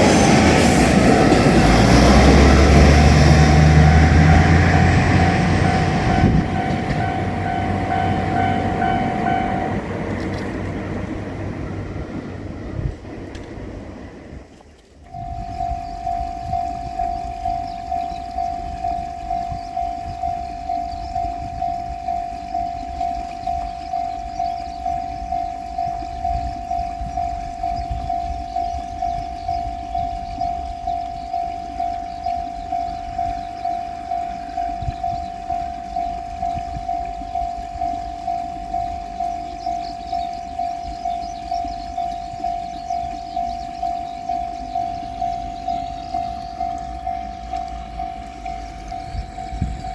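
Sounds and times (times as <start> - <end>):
level crossing bell ringing: 0.0 - 12.1, 15.1 - 49.9
low rumble: 0.0 - 49.9.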